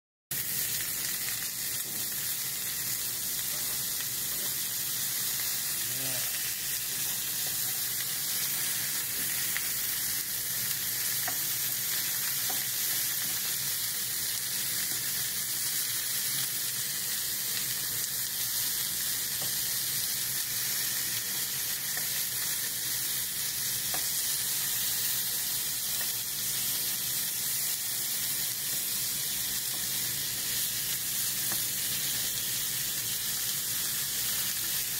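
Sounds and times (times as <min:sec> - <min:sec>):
meat sizzling in hot oil: 0:00.3 - 0:34.9.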